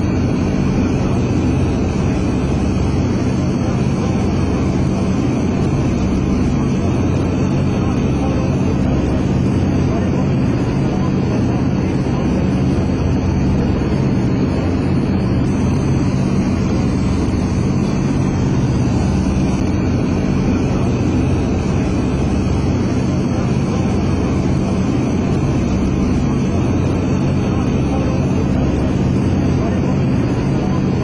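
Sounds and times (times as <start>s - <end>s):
propeller aircraft engines droning: 0.0s - 31.0s.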